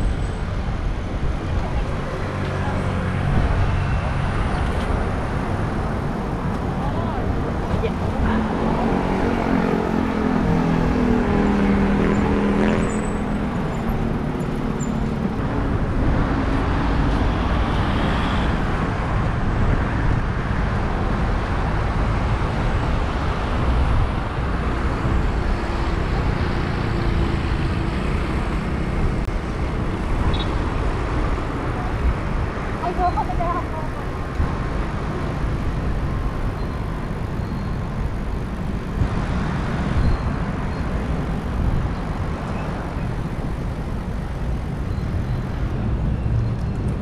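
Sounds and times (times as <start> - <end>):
vehicle engine hum: 0.0 - 47.0
vehicles passing: 0.0 - 47.0.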